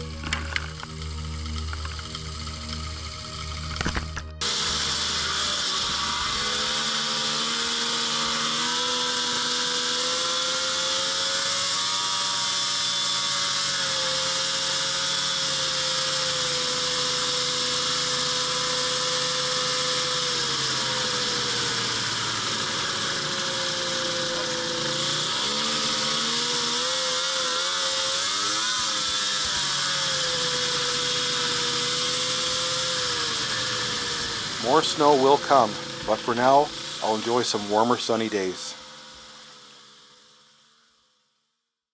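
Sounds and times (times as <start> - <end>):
snowmobile engine and track: 0.0 - 39.8.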